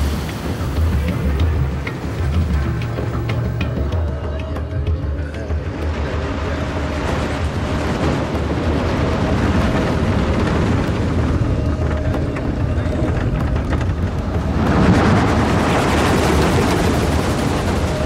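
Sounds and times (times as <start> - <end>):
mine cart rumbling on rails: 0.0 - 18.0.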